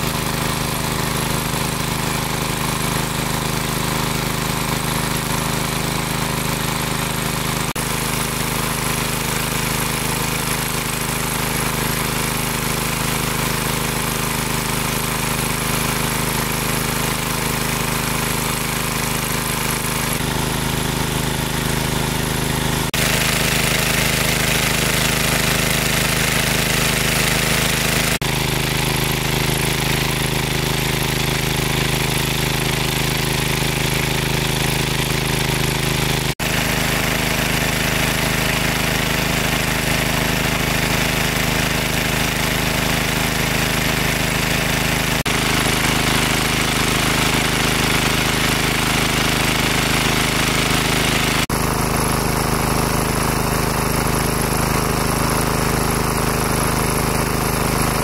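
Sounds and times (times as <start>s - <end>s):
engine-driven water pump running: 0.0s - 58.0s.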